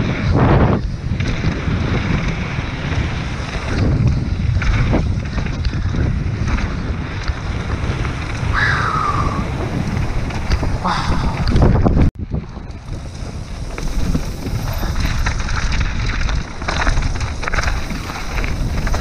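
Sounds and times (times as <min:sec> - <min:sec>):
bike clicks and rattles: 0:00.0 - 0:08.5, 0:09.5 - 0:19.0
wind buffeting microphone: 0:00.0 - 0:19.0.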